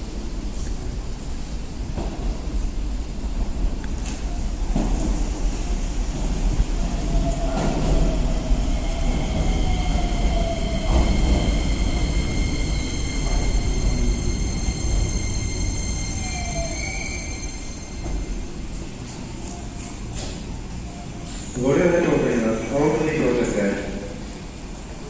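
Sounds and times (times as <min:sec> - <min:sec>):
train wheels rumbling: 0:00.0 - 0:25.0
high-pitched train whines: 0:04.0 - 0:24.6.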